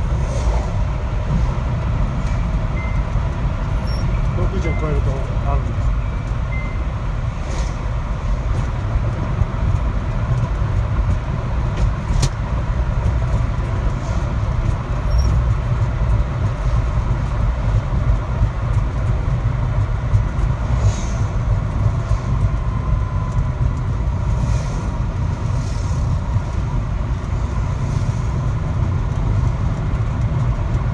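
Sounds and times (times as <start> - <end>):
road and engine rumble in car: 0.0 - 30.9.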